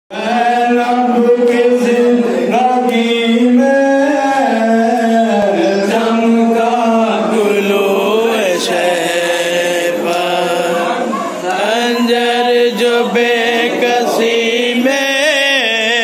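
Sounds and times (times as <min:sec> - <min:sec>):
man chanting a lament: 0:00.1 - 0:16.0.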